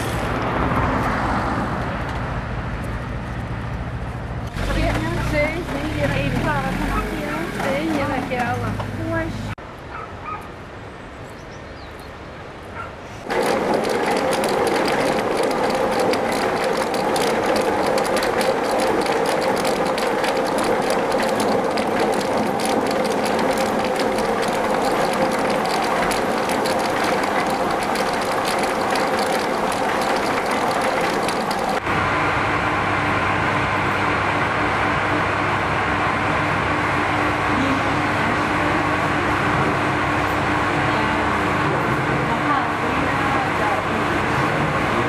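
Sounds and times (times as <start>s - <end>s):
machinery rattling and humming: 0.0s - 9.6s, 13.2s - 45.0s.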